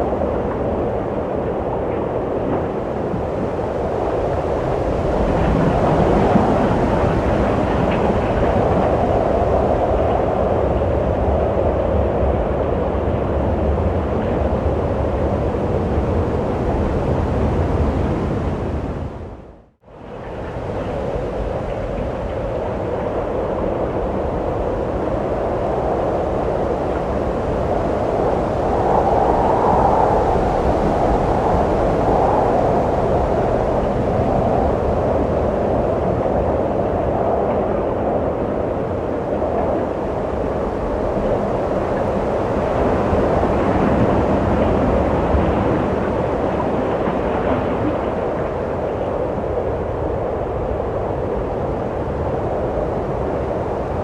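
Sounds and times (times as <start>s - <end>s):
wind blowing: 0.0s - 54.0s.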